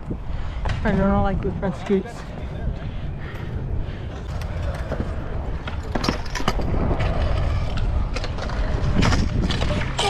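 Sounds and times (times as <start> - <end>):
scooter wheels rolling on concrete: 0.0 - 10.0.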